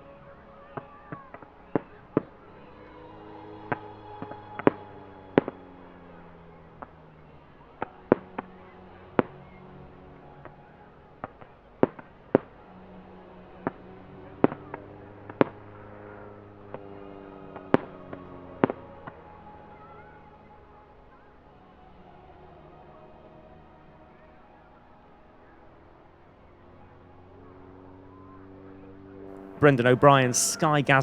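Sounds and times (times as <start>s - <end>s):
propeller plane engine droning: 0.0s - 31.0s.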